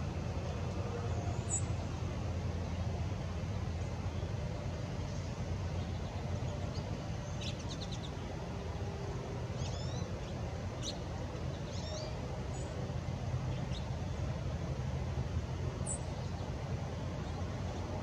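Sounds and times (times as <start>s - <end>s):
songbirds chirping: 0.1s - 18.0s.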